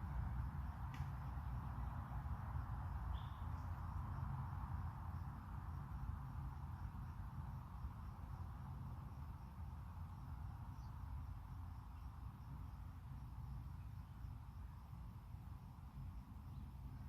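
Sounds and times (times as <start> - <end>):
crickets chirping: 0.0 - 17.0
low outdoor rumble: 0.0 - 17.0.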